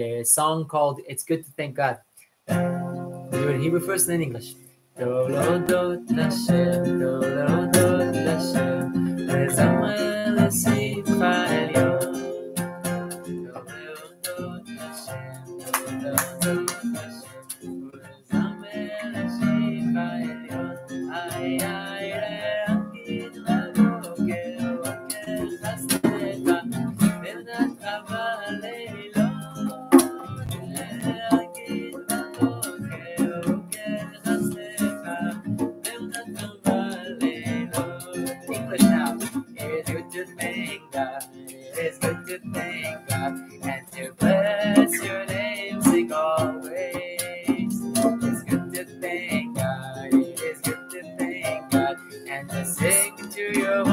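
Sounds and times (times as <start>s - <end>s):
acoustic guitar strumming: 2.5s - 53.9s
man singing: 3.3s - 4.4s, 5.0s - 12.5s, 13.1s - 53.9s.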